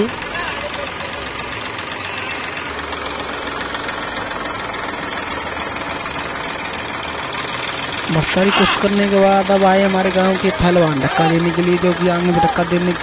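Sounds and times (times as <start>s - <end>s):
tractor diesel engine chugging: 0.0s - 13.0s.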